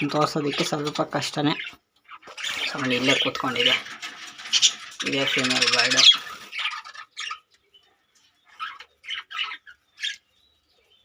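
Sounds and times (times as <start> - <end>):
budgies chirping: 0.0 - 11.0.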